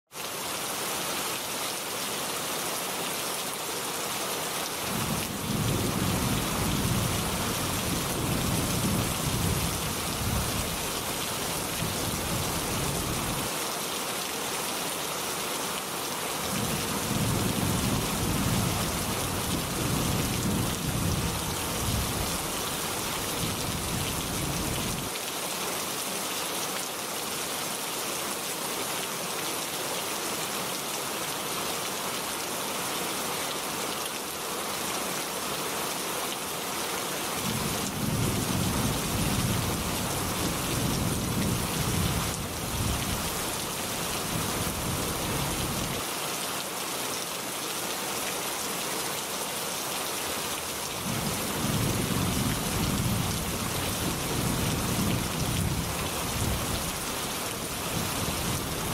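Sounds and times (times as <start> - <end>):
steady rain hissing: 0.2 - 58.9.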